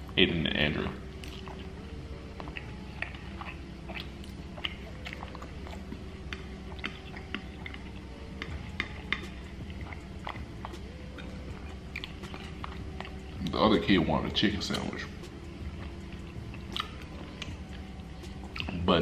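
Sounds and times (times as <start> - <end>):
person chewing food: 1.0 - 18.9
wet mouth clicks and smacks: 1.2 - 1.7, 2.4 - 13.2, 14.7 - 18.8.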